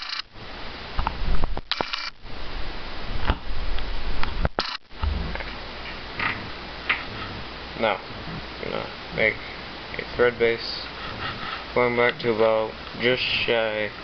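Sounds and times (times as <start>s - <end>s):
camera handling hiss and rumble: 0.0s - 14.0s.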